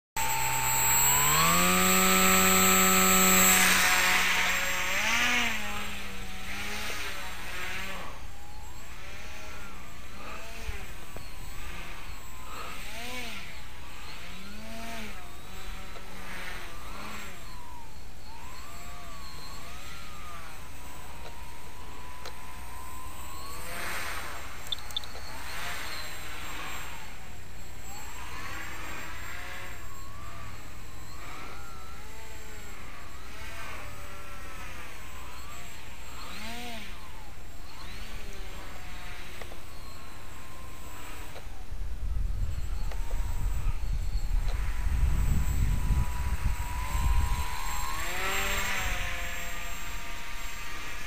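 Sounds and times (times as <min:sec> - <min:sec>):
propeller motor whine: 0:00.2 - 0:51.0.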